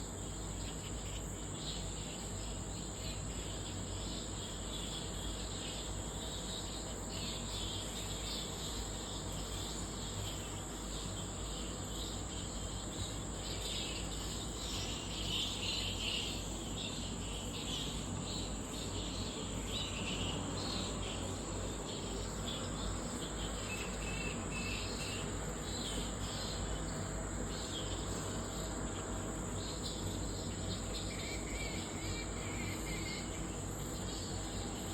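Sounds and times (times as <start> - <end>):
lower-pitched insect chirping: 0.0 - 34.9
night insects trilling: 0.0 - 34.9.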